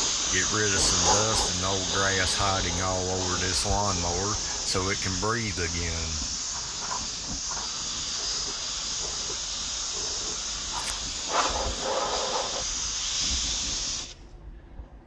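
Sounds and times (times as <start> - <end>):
compressed air blow gun hissing: 0.0 - 14.2.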